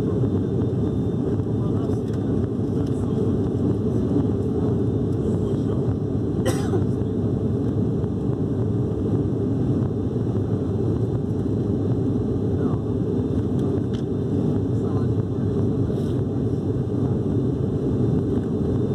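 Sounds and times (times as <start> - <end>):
turboprop engines droning: 0.0 - 18.9.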